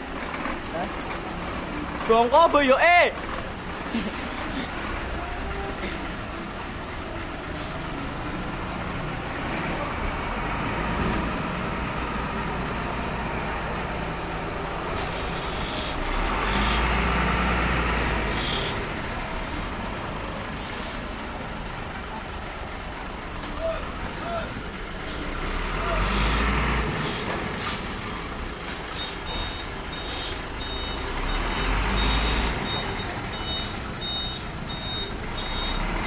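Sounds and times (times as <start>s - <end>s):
vehicle engine rumbling: 0.0s - 36.0s.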